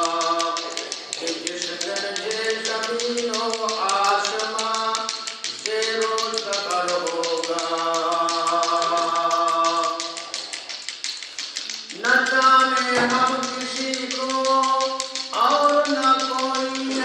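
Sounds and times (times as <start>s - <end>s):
person singing a chant: 0.0s - 10.6s, 11.9s - 17.0s
rapid ticking: 0.0s - 17.0s.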